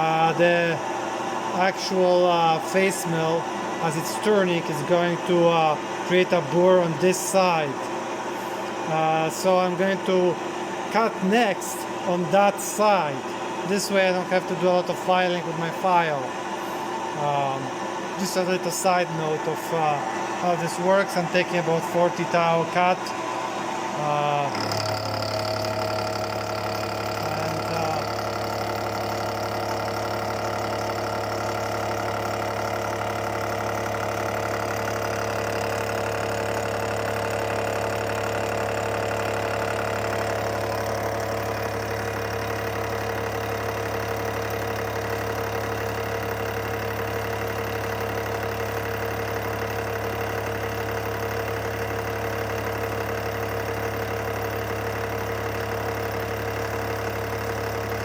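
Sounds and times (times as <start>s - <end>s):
milling machine hum: 0.0s - 58.0s.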